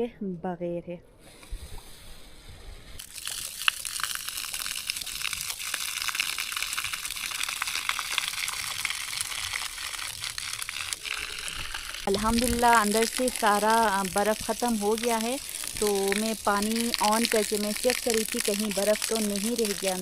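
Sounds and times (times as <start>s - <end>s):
water hissing from garden hose: 3.0s - 20.0s.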